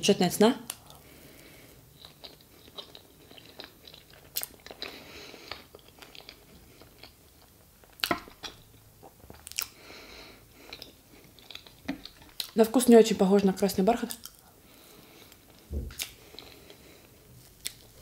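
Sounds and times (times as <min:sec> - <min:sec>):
chewing and wet mouth sounds: 0:00.6 - 0:09.9, 0:10.5 - 0:12.7, 0:13.4 - 0:18.0.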